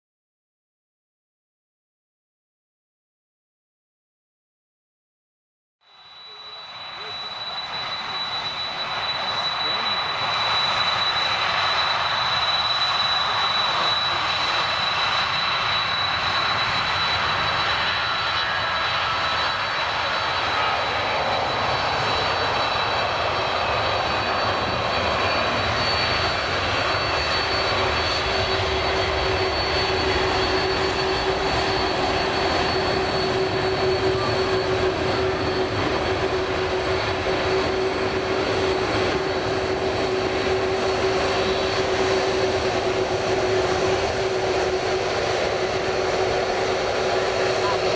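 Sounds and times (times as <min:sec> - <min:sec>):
jet engines rushing with high whine: 0:05.8 - 0:47.9.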